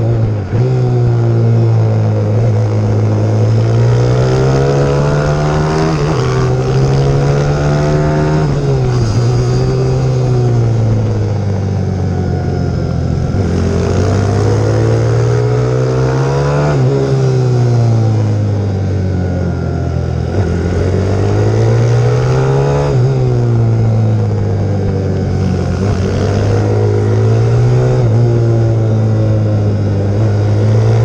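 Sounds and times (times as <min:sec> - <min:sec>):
pit bike engine revving: 0:00.0 - 0:18.6, 0:19.4 - 0:31.0.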